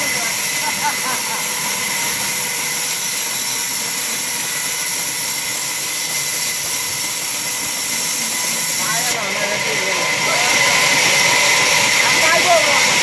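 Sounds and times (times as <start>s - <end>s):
band saw cutting log: 0.0s - 13.0s.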